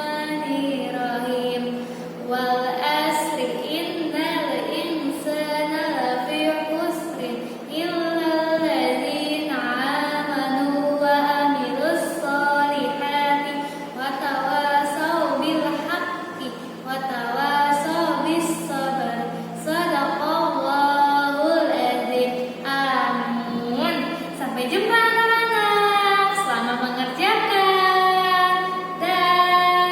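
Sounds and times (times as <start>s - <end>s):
woman singing: 0.0s - 29.9s.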